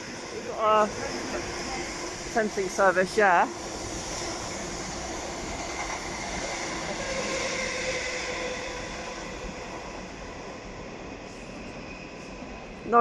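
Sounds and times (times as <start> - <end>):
electric train rumbling on track: 0.0 - 13.0.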